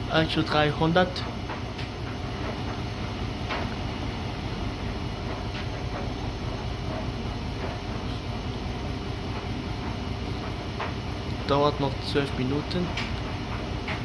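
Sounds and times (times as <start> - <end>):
washing machine motor and drum: 0.0 - 14.0.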